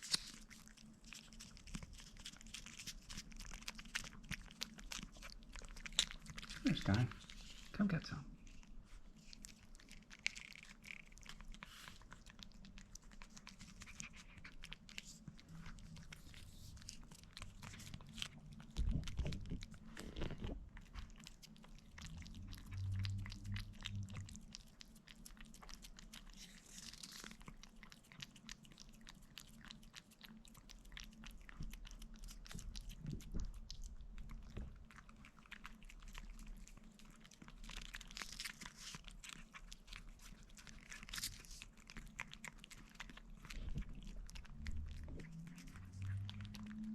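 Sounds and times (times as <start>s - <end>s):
cats licking and eating: 0.0s - 46.9s.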